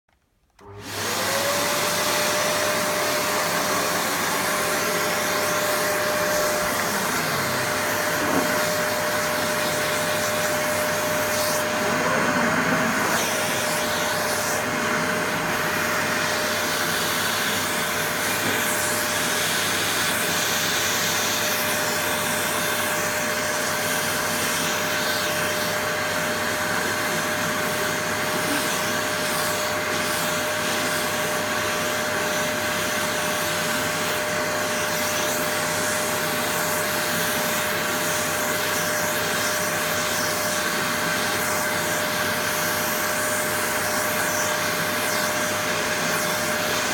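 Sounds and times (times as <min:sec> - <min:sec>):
vacuum cleaner running: 0:00.5 - 0:46.9.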